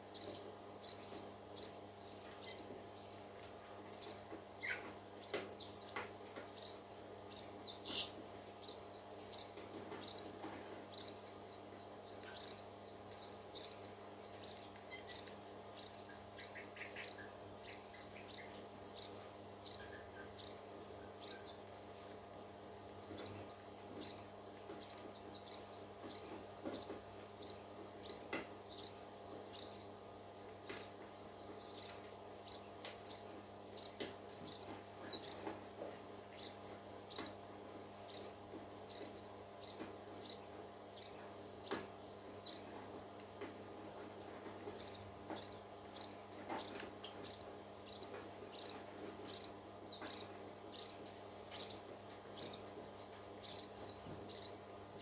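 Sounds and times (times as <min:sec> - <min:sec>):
low electrical hum: 0:00.0 - 0:55.0
parrot chick peeping: 0:00.0 - 0:55.0.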